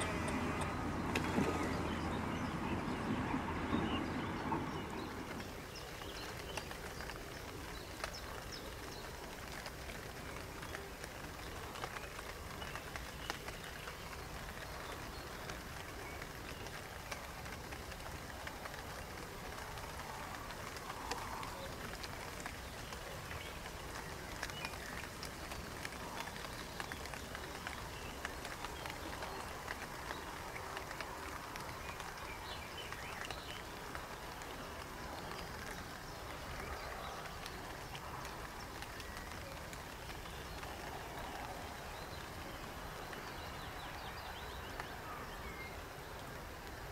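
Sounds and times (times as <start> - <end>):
scattered small ticks: 5.2 - 43.3.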